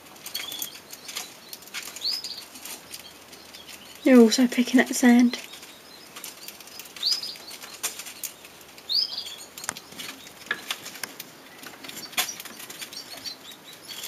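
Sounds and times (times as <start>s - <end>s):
bird chirp: 0.0s - 14.0s
birds pecking at sand: 0.0s - 14.0s.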